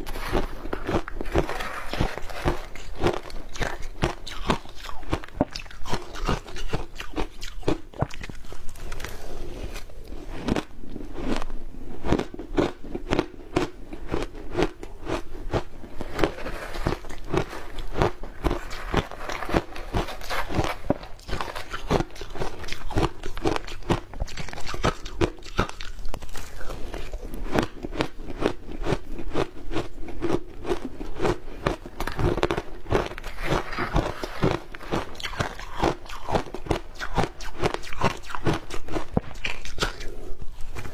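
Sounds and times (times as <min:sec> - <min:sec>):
ice crunching while chewed: 0:00.0 - 0:40.9.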